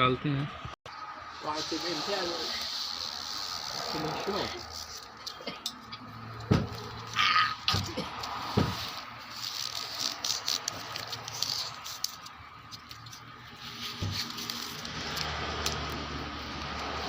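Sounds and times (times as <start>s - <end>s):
rubber strip handling noise: 2.5s - 17.0s.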